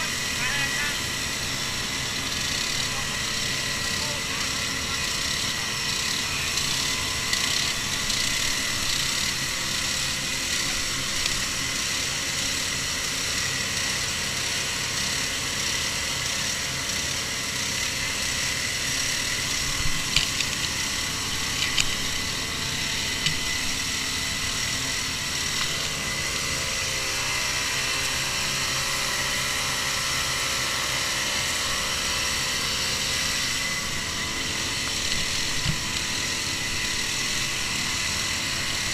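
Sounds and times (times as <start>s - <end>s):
engine whining at high speed: 0.0s - 38.9s.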